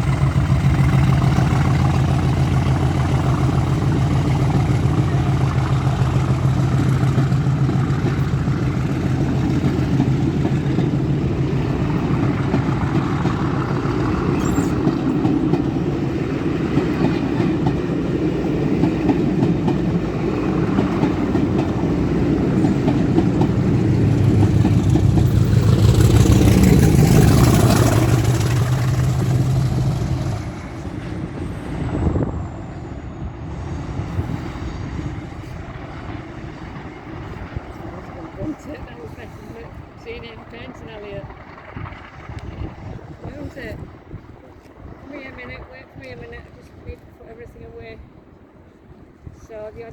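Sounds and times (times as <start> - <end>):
diesel locomotive engine drone: 0.0 - 49.9.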